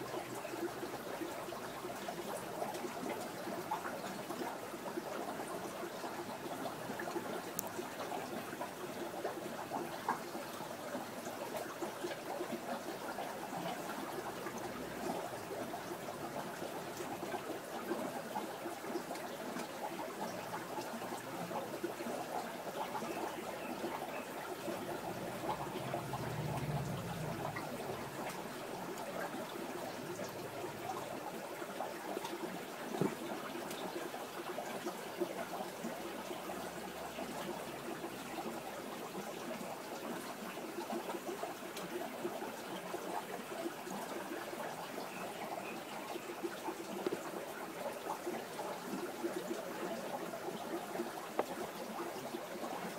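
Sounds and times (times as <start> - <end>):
aquarium water trickling: 0.0 - 52.9.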